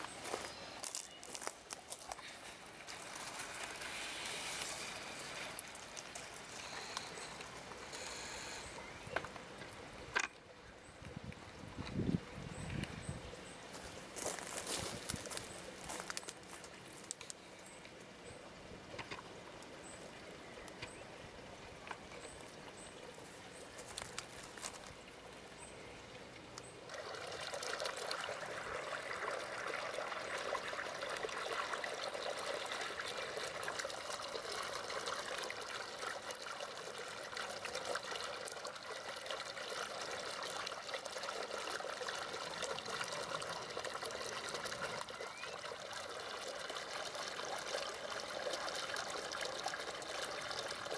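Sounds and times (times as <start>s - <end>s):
running water trickling: 0.0s - 50.9s.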